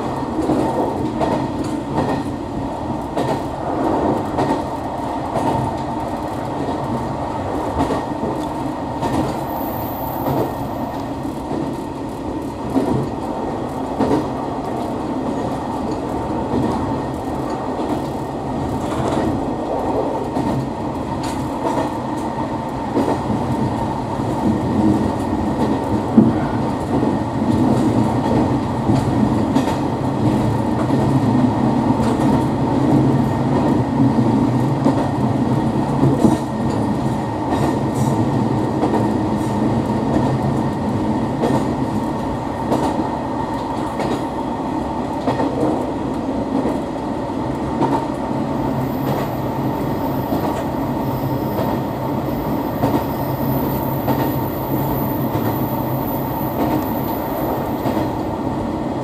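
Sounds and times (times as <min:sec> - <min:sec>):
railcar engine drone: 0:00.0 - 0:59.0
train wheel noise: 0:00.0 - 0:59.0.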